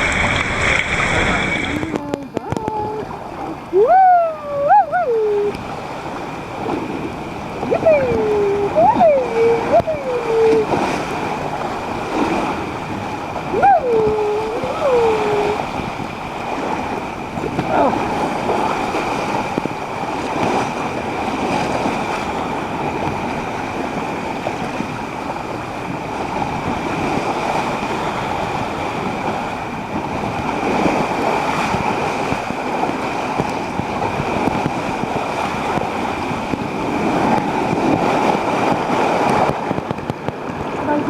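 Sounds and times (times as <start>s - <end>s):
splashing churning water: 0.0s - 41.0s.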